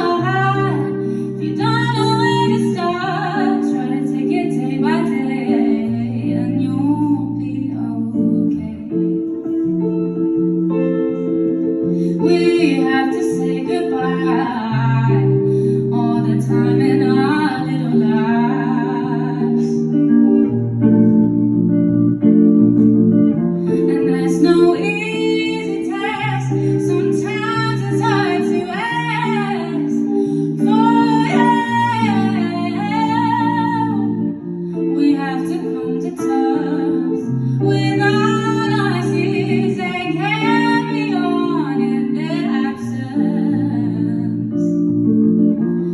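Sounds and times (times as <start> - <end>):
woman singing: 0.0 - 21.2, 23.3 - 45.9
guitar chords: 0.0 - 45.9.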